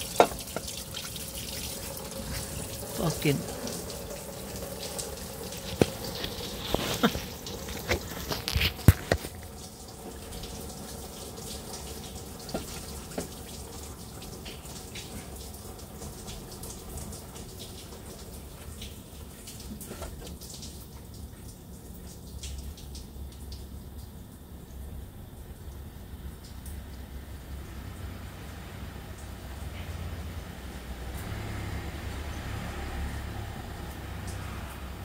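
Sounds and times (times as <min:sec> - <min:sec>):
liquid trickling: 0:00.0 - 0:35.0.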